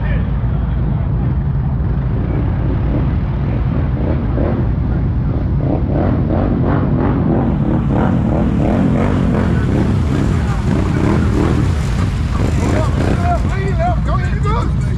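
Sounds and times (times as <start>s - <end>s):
atv engine running loud: 0.0s - 14.9s.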